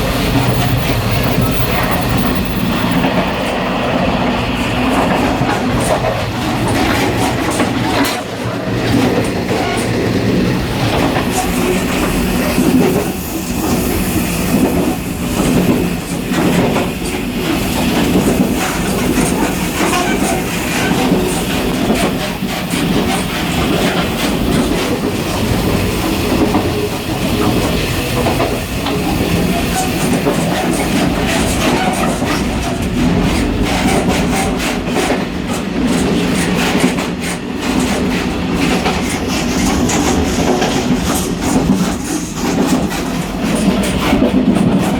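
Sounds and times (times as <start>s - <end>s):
train rumble and rattle: 0.0s - 44.9s.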